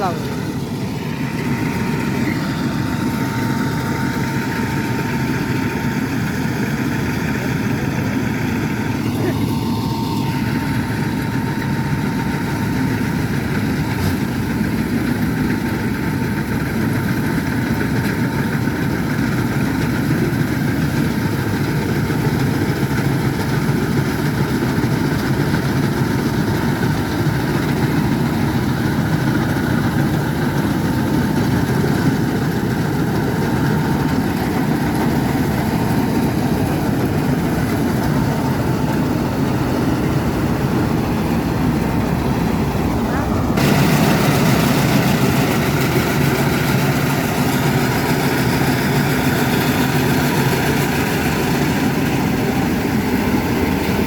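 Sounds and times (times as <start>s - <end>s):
combine harvester diesel engine: 0.0s - 54.0s
threshing machinery running: 0.0s - 54.0s.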